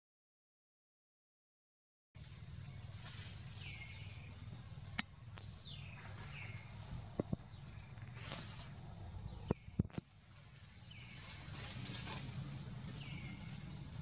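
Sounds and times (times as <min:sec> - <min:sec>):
high-pitched insect drone: 0:02.2 - 0:14.0.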